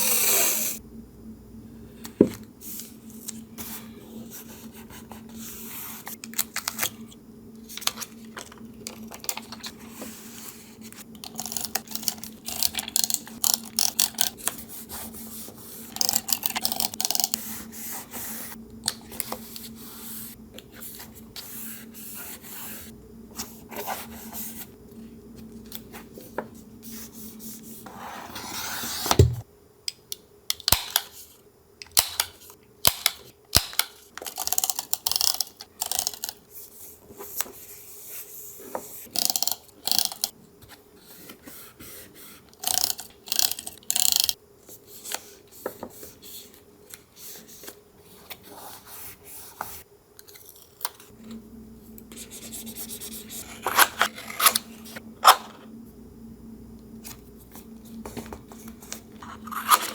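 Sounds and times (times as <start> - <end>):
low hum with hiss: 0.0 - 59.9.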